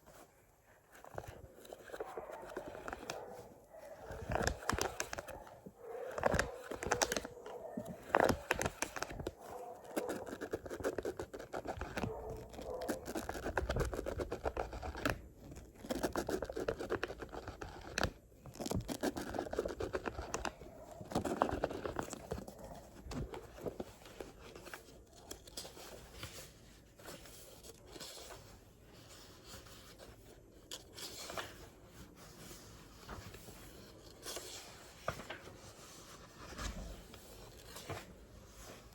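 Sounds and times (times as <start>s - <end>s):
book pages scratching: 0.8s - 38.9s.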